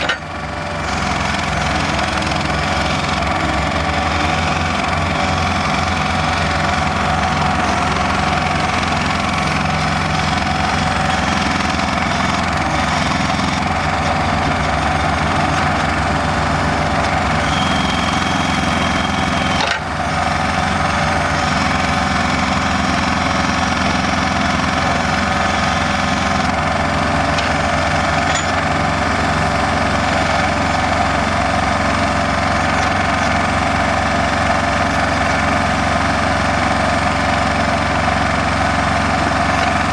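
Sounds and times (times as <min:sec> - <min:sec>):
machine engine running: 0:00.0 - 0:39.9.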